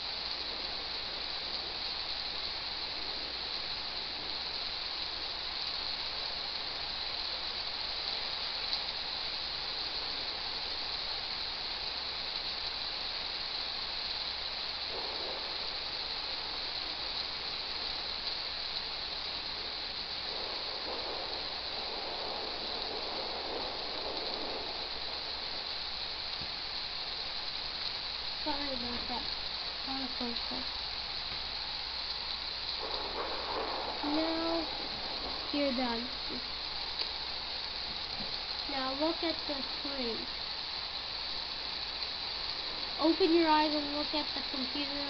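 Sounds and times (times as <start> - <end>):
rain falling: 0.0 - 45.0.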